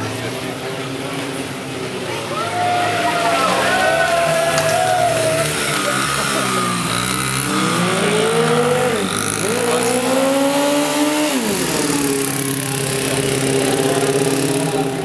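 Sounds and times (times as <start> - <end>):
dirt bike engine revving: 2.8 - 15.0.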